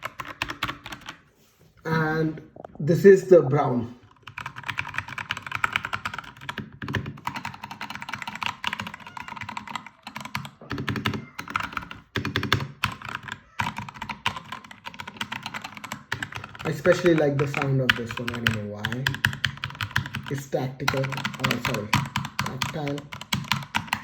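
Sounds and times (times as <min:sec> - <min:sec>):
mechanical keyboard typing: 0:00.0 - 0:01.2, 0:04.0 - 0:24.0.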